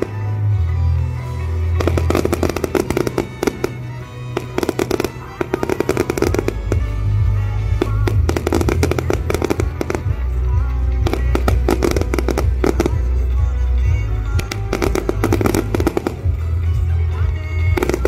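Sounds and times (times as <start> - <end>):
fireworks crackling and popping: 0.0 - 18.0
music with low bass: 0.0 - 18.0.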